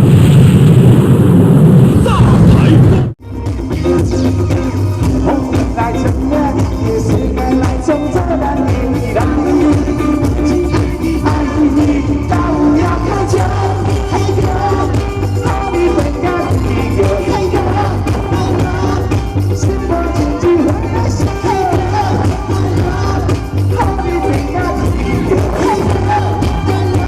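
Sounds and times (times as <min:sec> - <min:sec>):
live band playing pop song: 0:02.0 - 0:27.0.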